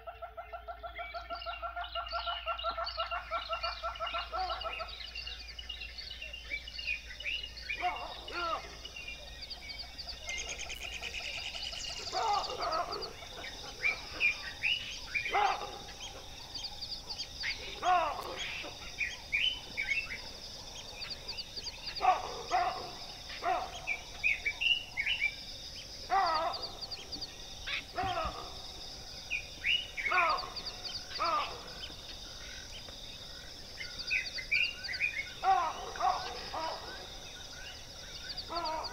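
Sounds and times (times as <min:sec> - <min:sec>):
birds calling: 0:00.0 - 0:38.9.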